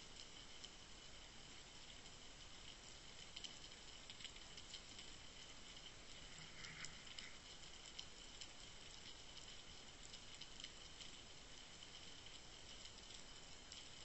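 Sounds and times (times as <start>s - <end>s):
crackling clicks: 0.0s - 14.0s
low underwater hiss: 0.0s - 14.0s.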